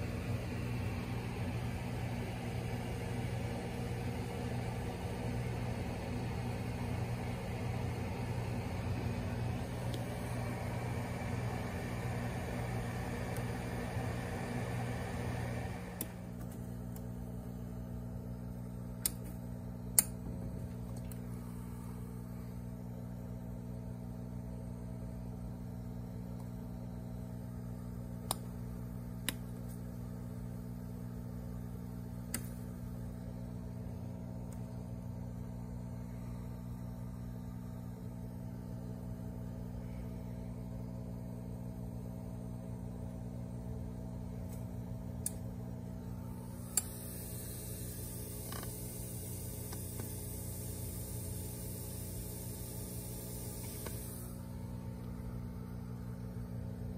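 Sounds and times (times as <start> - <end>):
aquarium equipment humming: 0.0 - 56.9.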